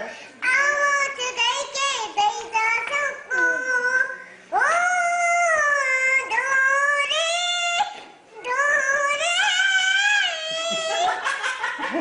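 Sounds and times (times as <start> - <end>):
girl singing: 0.2 - 11.2.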